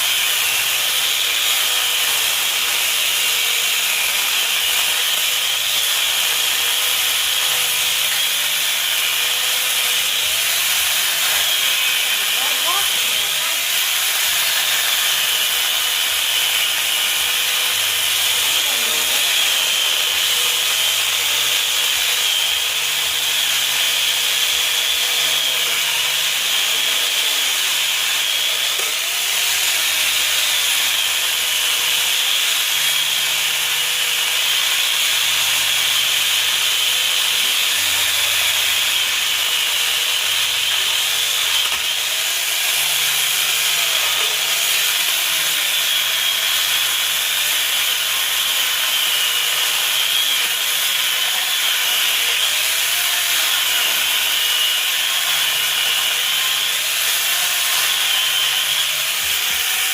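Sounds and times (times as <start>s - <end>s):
angle grinder chainsaw cutting wood: 0.0s - 59.9s.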